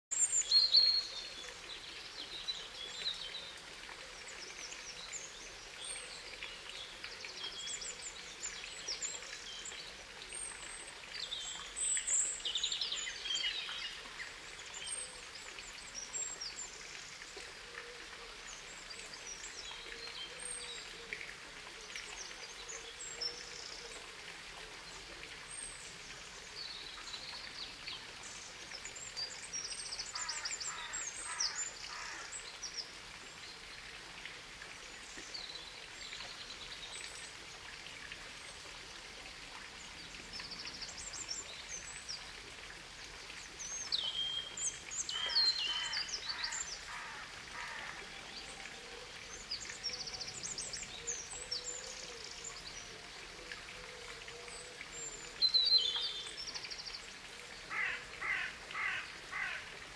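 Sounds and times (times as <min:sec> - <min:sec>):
faint outdoor hiss: 0:00.1 - 0:59.9.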